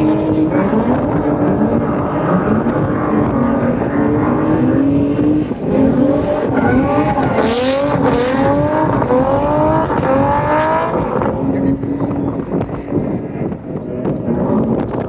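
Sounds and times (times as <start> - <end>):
tire squeal: 0.0 - 13.1
car engine revving: 0.0 - 15.0.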